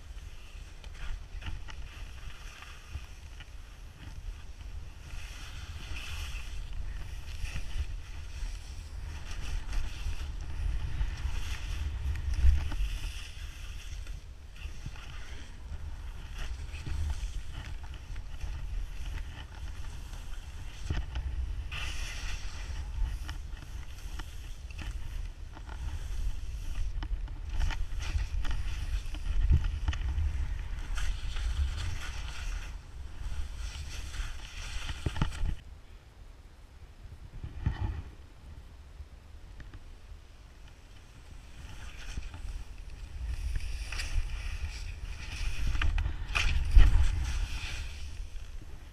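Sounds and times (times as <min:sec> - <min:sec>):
skis hissing through snow: 0:00.0 - 0:35.6, 0:40.9 - 0:48.9
wind rumbling on microphone: 0:00.0 - 0:48.9.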